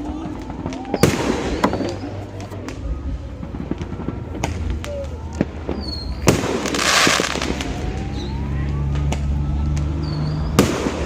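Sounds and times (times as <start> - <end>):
fireworks bangs and pops: 0.0 - 11.0
fireworks crackling: 0.0 - 11.0
fireworks whistling: 0.0 - 11.0.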